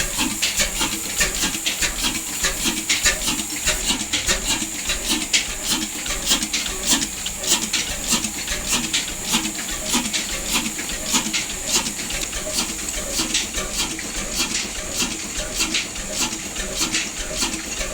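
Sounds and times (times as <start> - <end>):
diesel engine knocking: 0.0 - 17.9.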